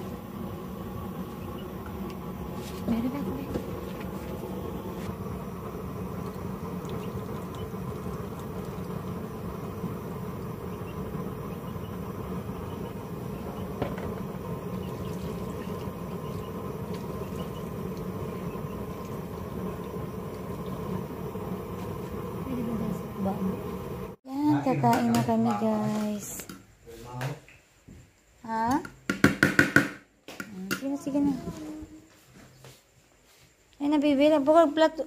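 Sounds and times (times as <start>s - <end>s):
oil stove burning: 0.0s - 31.8s.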